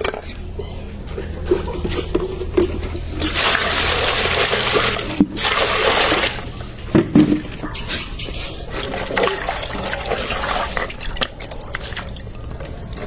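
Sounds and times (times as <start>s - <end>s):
water gushing: 1.9s - 13.0s.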